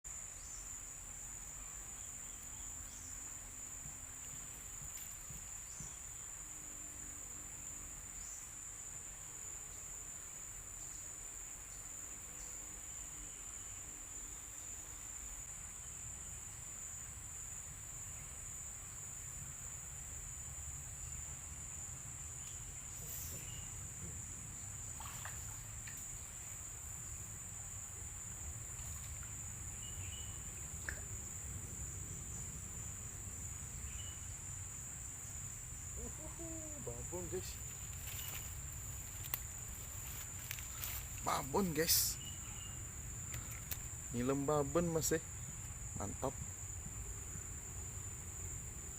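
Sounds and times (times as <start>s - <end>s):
high-pitched insect chorus: 0.1s - 48.9s.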